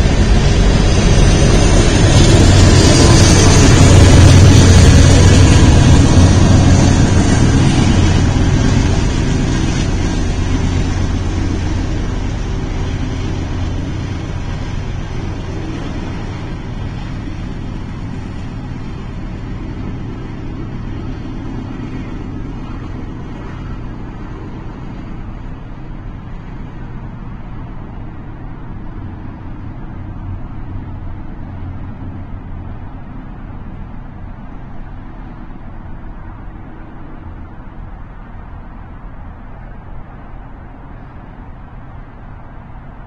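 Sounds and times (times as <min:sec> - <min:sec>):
freight train rolling past: 0:00.0 - 0:43.0.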